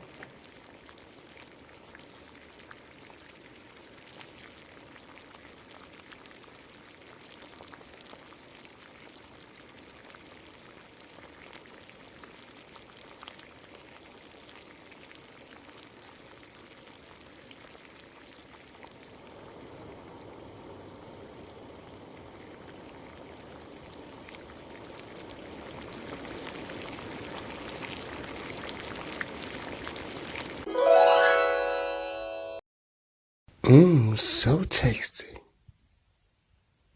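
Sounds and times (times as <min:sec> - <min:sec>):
water boiling in a pan: 0:00.0 - 0:30.6.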